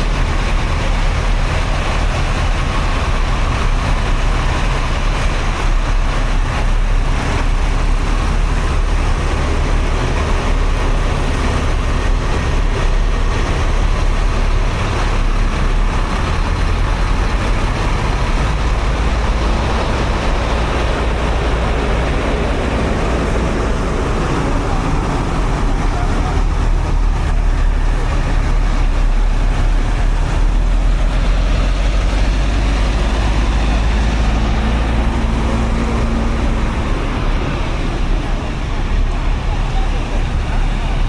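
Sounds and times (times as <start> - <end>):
heavy low rumble: 0.0 - 41.0
road traffic: 0.0 - 41.0.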